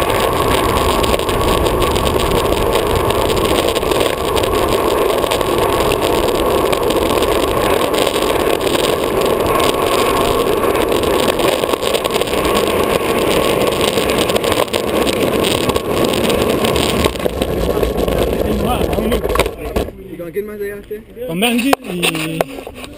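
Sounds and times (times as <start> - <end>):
wind on microphone: 0.0 - 19.9
skateboard wheels rolling on asphalt: 0.0 - 22.9.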